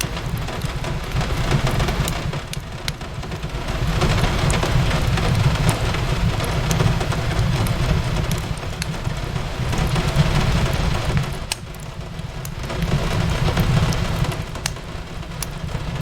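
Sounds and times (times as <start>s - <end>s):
rain hissing on a window: 0.0s - 16.0s
wood fire crackling and popping: 0.0s - 16.0s.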